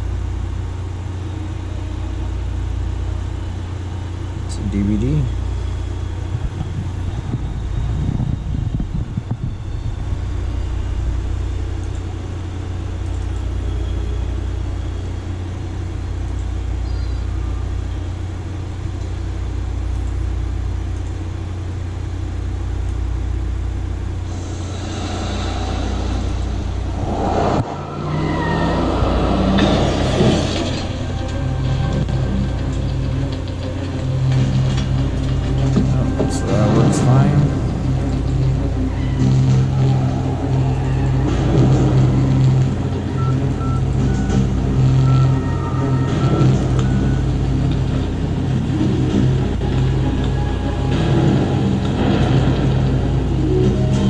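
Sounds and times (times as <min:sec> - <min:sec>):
film soundtrack through speakers: 0:00.0 - 0:54.0.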